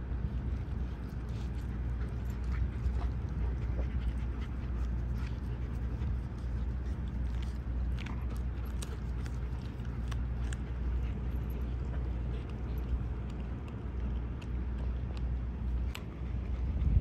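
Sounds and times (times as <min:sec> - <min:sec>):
low rumble: 0:00.0 - 0:17.0
puppy chewing bone: 0:00.0 - 0:17.0.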